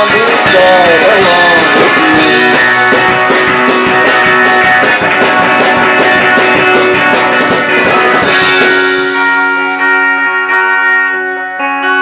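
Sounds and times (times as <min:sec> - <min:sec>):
electric guitar chord ringing: 0:00.0 - 0:12.0
rock band playing: 0:00.0 - 0:12.0.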